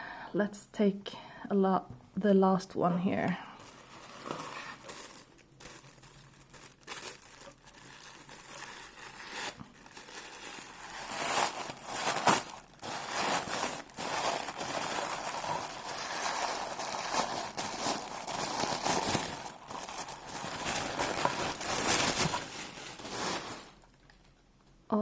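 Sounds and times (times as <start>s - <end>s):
sharp crackle of wrapping: 3.6s - 24.2s
wrapping crinkling and rustling: 3.6s - 24.4s.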